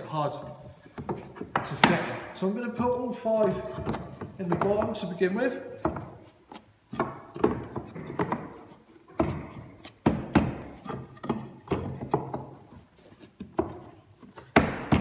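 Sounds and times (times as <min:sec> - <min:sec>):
wood rubbing and scraping: 0:00.0 - 0:15.0
sharp wooden knocks: 0:00.9 - 0:05.2, 0:05.8 - 0:15.0.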